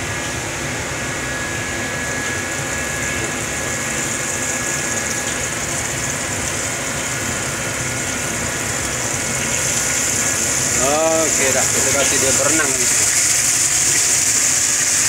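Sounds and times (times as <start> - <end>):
mechanical hum with hiss: 0.0 - 15.0.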